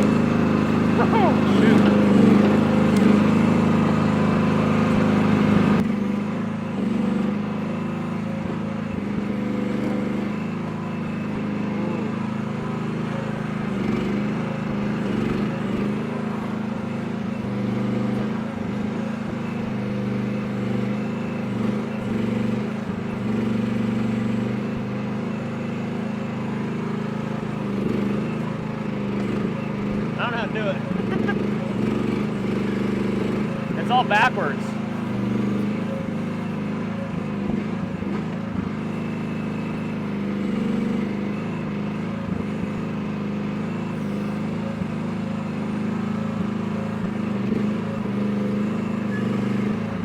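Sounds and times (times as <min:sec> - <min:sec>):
mini excavator engine running: 0:00.0 - 0:50.0.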